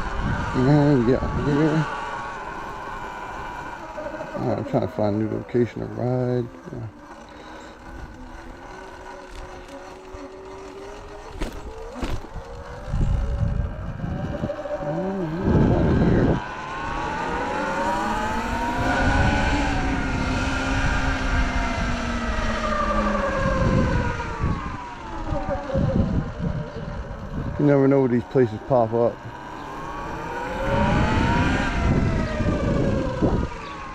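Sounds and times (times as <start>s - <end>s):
electric motorbike motor whining: 0.0s - 33.9s.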